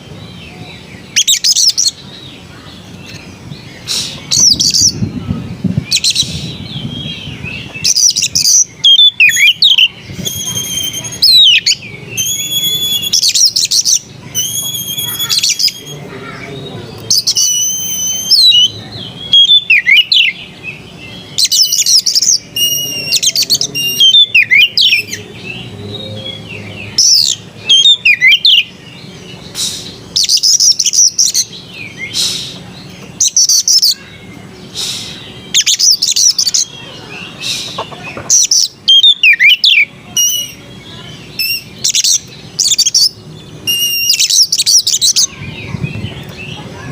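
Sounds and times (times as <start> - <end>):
bird singing varied song: 0.0 - 46.9.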